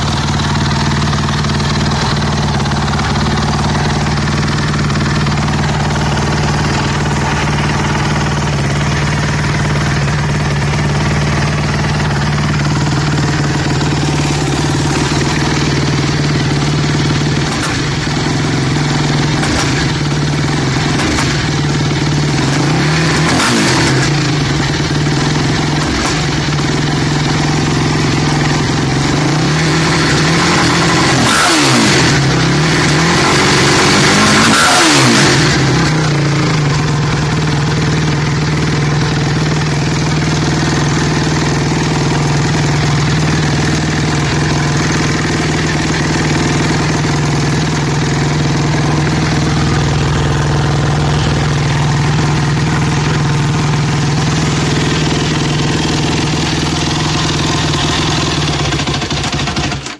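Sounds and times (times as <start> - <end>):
atv engine idling and revving: 0.0 - 59.9.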